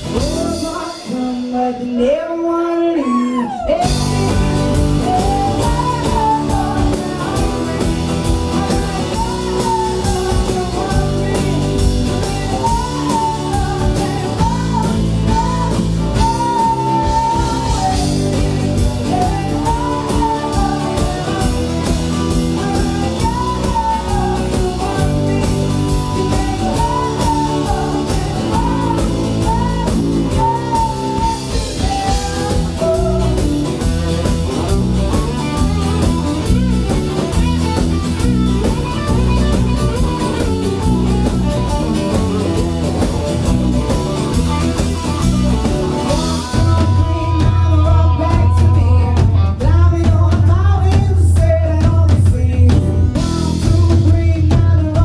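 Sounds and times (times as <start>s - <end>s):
woman singing: 0.0s - 34.7s, 45.1s - 55.0s
rock band playing: 0.0s - 55.0s.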